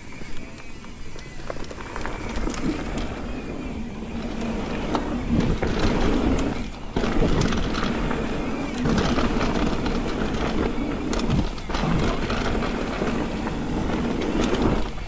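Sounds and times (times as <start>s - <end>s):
bike clicks and rattles: 0.0s - 15.0s
wind and tyre noise: 0.0s - 15.0s.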